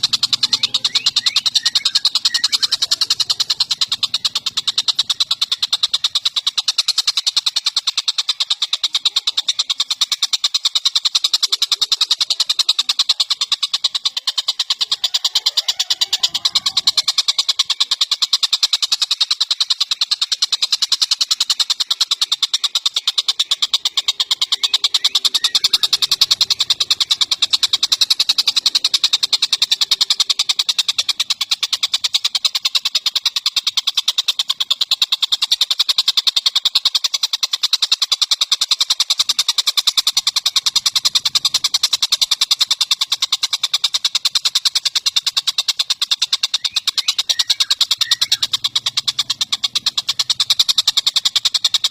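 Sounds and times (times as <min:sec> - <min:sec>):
bird rattling call: 0:00.0 - 0:51.9.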